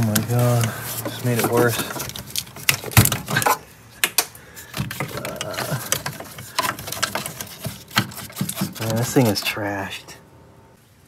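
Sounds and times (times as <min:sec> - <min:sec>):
hand tools clicking and knocking: 0:00.0 - 0:09.6.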